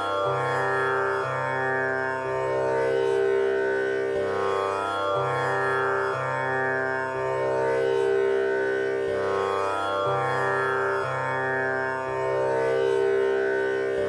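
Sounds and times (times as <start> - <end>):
instrumental music over a drone: 0.0 - 14.0.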